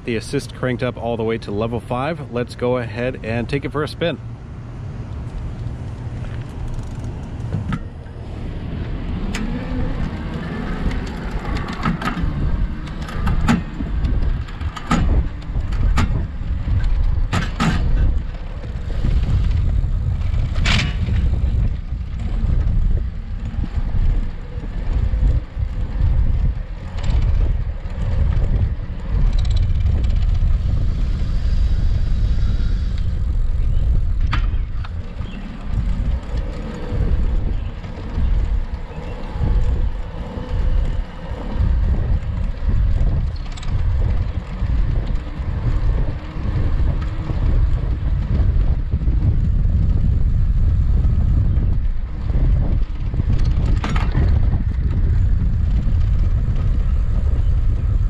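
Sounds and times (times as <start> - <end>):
bike rattling: 0.0 - 58.0
wind rumble on microphone: 0.0 - 58.0.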